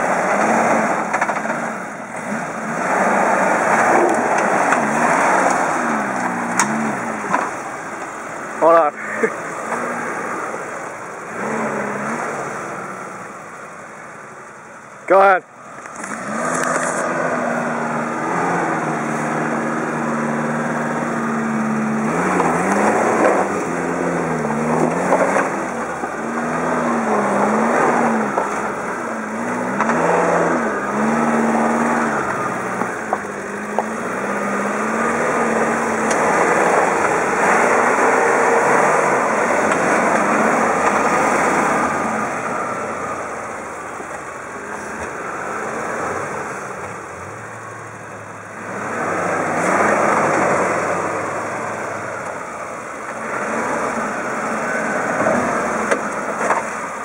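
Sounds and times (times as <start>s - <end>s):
engine working at low revs: 0.0s - 57.0s.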